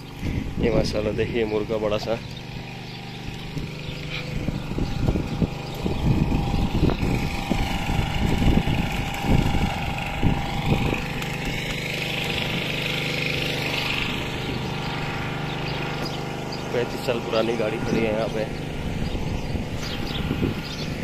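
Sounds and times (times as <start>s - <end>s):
engine humming: 0.0s - 21.0s
low rumbling bursts: 0.0s - 21.0s.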